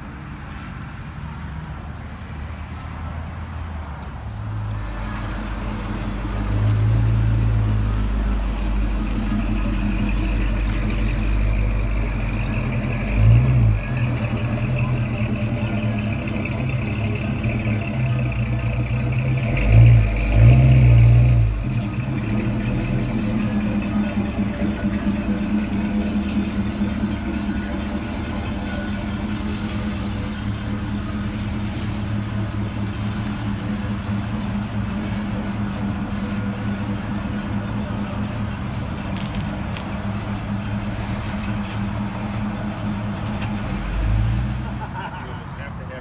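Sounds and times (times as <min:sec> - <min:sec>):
car engine idling: 0:03.4 - 0:46.0.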